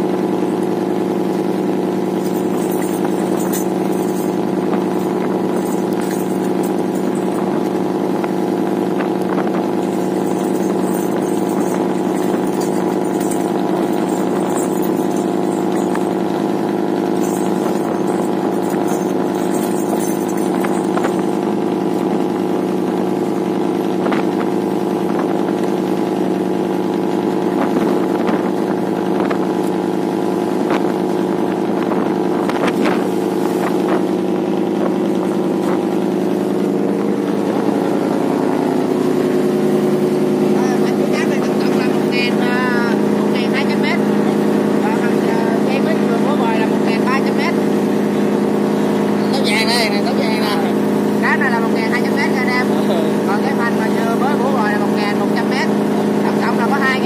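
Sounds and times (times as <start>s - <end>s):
boat engine running: 0.0s - 57.0s
water rushing along hull: 0.0s - 57.0s.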